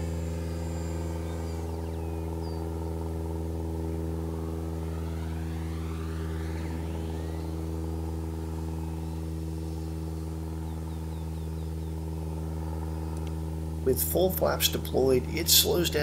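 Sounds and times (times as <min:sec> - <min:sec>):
electric motor and propeller whining: 0:00.0 - 0:16.0
steady low hum: 0:00.0 - 0:16.0.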